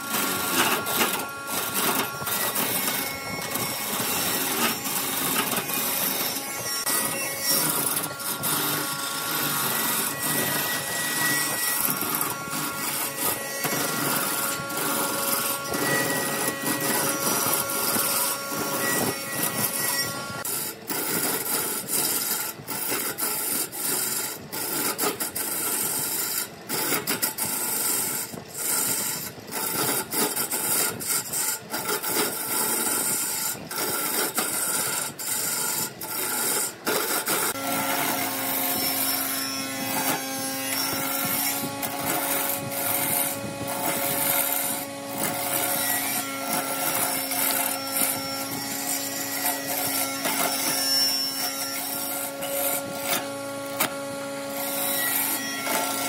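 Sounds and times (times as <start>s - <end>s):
chisel scraping wood on lathe: 0.0s - 56.0s
steady motor hum: 0.0s - 56.0s.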